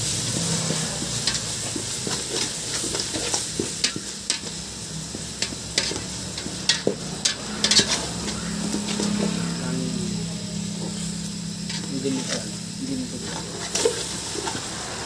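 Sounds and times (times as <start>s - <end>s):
curry paste sizzling in a pan: 0.0s - 15.0s.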